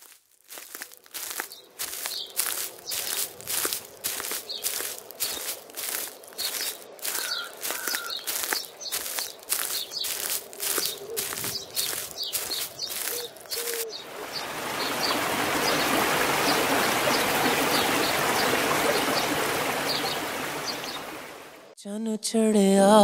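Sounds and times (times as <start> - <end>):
footsteps on pine needles: 0.0 - 21.0
small birds chirping: 0.5 - 21.6
stream rushing over stones: 0.5 - 21.7.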